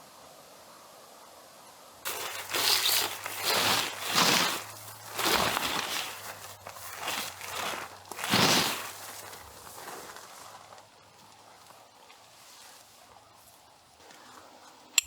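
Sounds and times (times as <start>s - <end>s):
crunching on dry forest floor: 2.0s - 14.8s.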